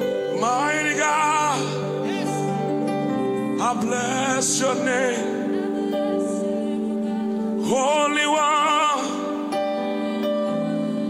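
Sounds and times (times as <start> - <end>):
man singing with vibrato: 0.0 - 10.9
held instrumental chords: 0.0 - 11.0.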